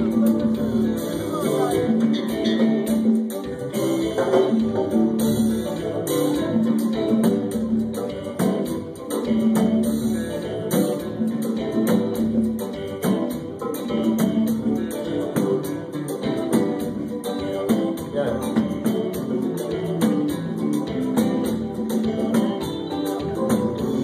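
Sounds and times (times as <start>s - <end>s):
guitar: 0.0s - 24.0s
hand percussion rhythm: 0.0s - 24.0s
held bass notes: 0.0s - 24.0s.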